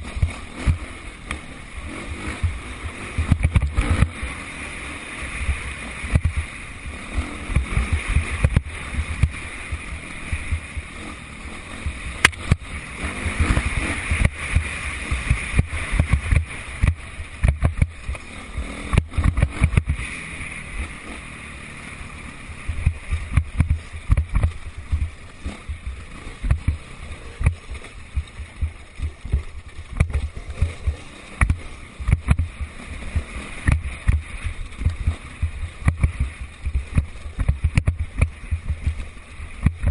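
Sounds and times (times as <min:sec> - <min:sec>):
motocross bike engines: 0:00.0 - 0:39.9.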